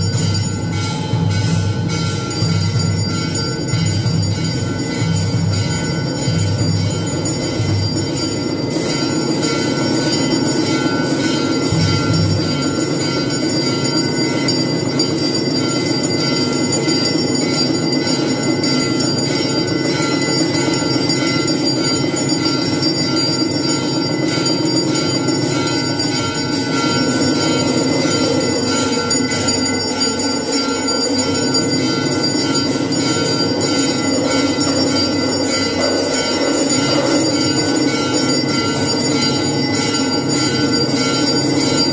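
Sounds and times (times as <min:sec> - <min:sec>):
brass bells ringing: 0:00.0 - 0:41.9.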